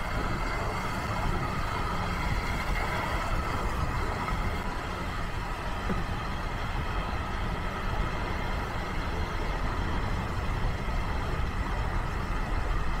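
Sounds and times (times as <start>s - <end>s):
car driving on motorway: 0.0s - 13.0s.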